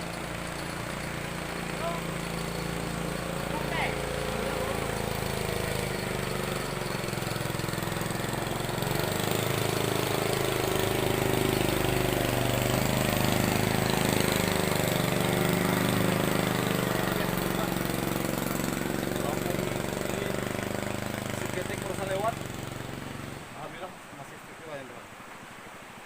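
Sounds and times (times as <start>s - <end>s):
boat engine passing: 0.0s - 25.2s.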